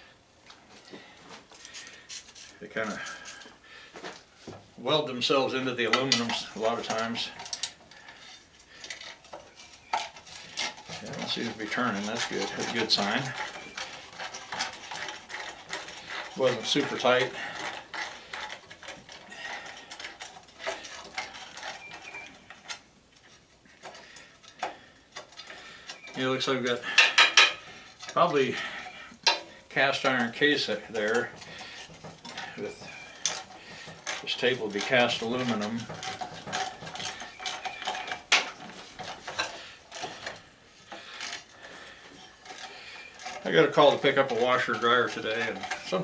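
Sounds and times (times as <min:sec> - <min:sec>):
metal tools clicking and clinking: 0:05.2 - 0:46.0.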